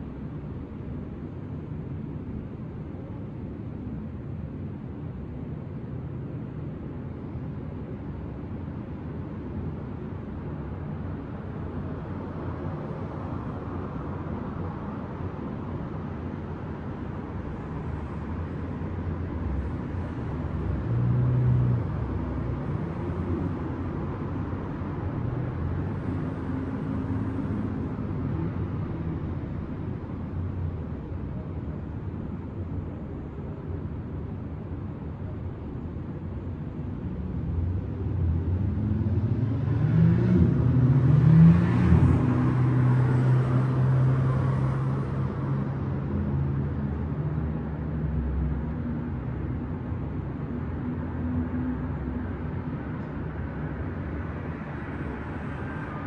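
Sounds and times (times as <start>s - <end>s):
city street traffic hum: 0.0s - 56.0s.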